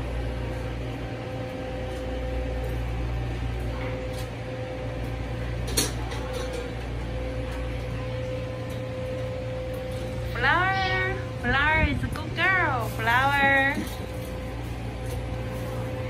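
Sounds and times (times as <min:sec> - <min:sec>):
faint steady whine: 0:00.0 - 0:16.0
low machine hum: 0:00.0 - 0:16.0.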